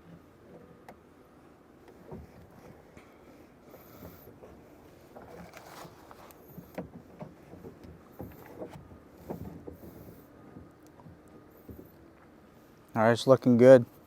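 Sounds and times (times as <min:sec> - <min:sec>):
water lapping: 0:01.4 - 0:13.2.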